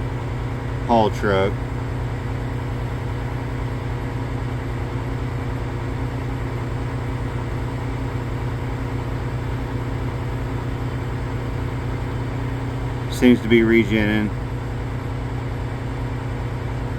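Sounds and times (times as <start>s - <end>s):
diesel engine humming: 0.0s - 2.6s, 4.1s - 16.9s.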